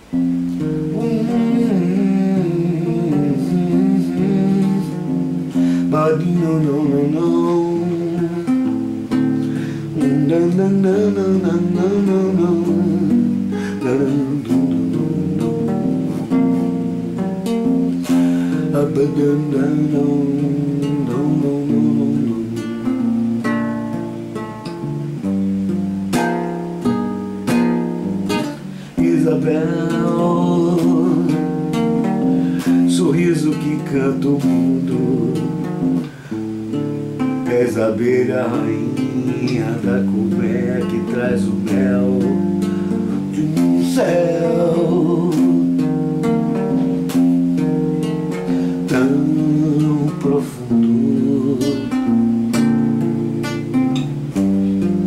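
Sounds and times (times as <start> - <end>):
acoustic guitar playing chords: 0.0 - 55.0.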